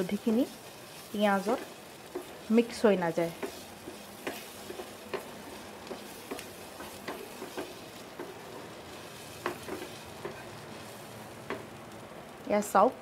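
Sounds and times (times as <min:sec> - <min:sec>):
onions sizzling in oil: 0:00.0 - 0:13.0
wooden spatula scraping a pan: 0:00.6 - 0:11.0.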